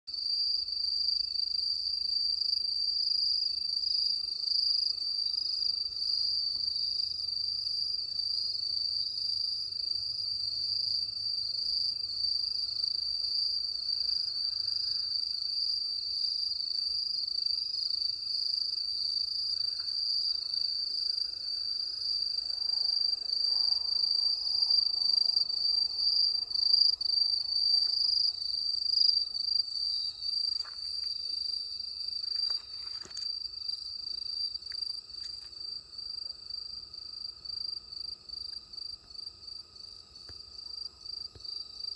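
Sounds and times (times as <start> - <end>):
crickets chirping: 0.1 - 41.9.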